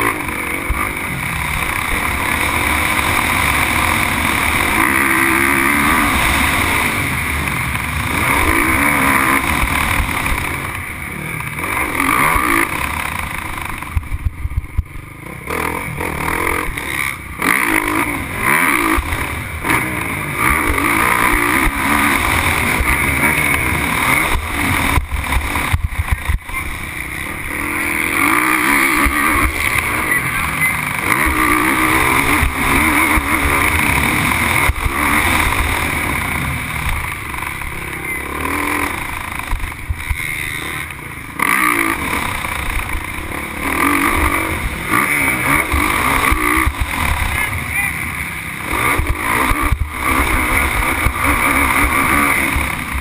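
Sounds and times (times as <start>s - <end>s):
motocross engine revving: 0.0s - 53.0s.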